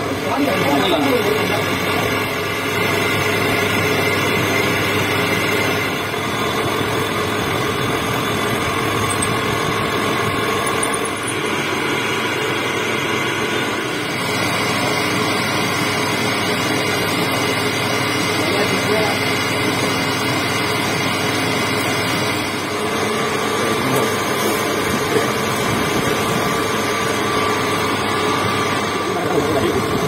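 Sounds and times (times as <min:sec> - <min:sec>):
metal lathe cutting with faint whine: 0:00.0 - 0:30.0.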